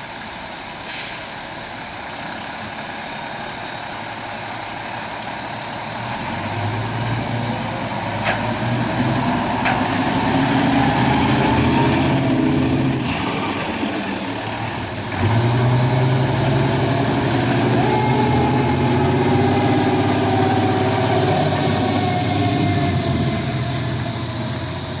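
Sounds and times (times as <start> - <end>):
high engine whine: 1.4 - 25.0
diesel engine accelerating: 1.8 - 25.0.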